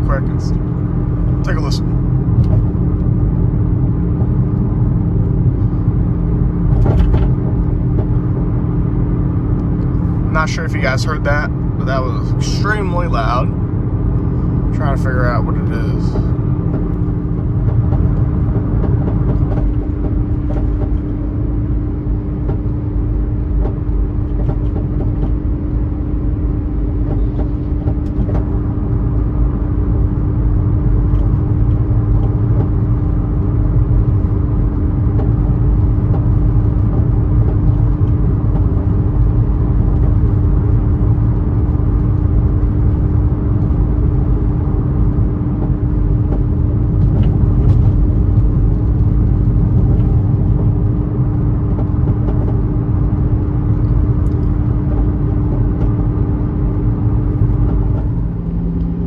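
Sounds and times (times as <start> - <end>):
in-cabin road and engine noise: 0.0 - 59.0.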